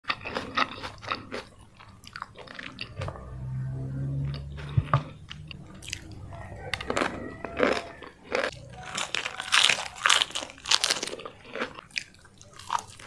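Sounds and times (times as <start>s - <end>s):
crunchy chewing: 0.0s - 3.3s, 4.2s - 13.0s
low steady hum: 0.2s - 13.0s.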